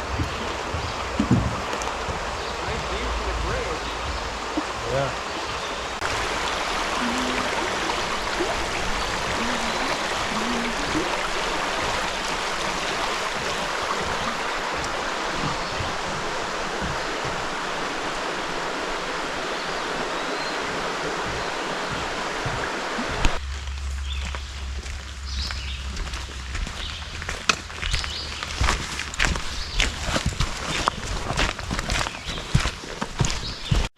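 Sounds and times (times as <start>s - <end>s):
creek water rushing: 0.0s - 24.1s, 24.7s - 33.9s.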